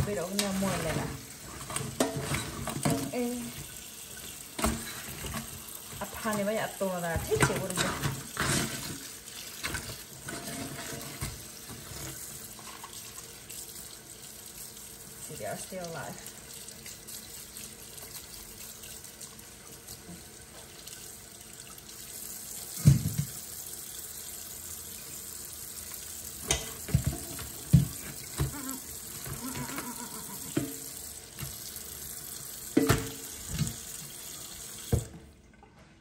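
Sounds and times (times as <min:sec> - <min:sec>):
tap water running into sink: 0:00.0 - 0:35.3.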